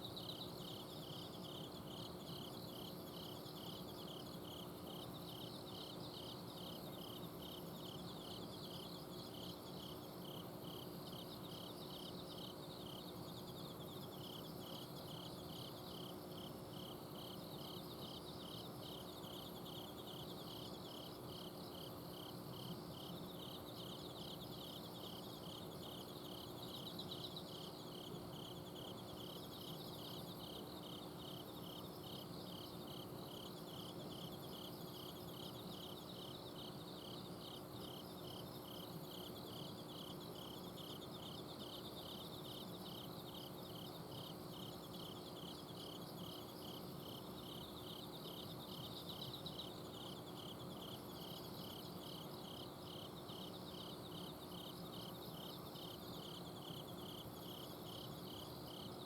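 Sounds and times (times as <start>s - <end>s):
cricket chirping evenly: 0.0s - 59.0s
crickets trilling: 0.0s - 59.0s.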